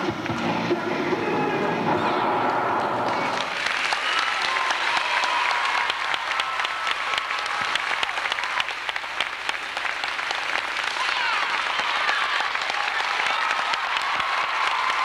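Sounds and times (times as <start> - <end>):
crowd applauding: 2.9 - 15.0.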